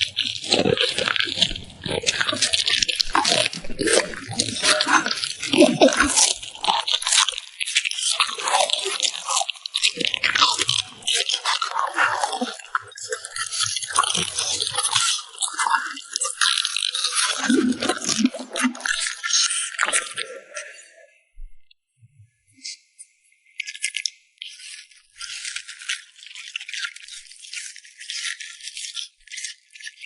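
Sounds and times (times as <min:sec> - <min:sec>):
dog crunching and chewing food: 0:00.0 - 0:20.3, 0:23.6 - 0:30.0.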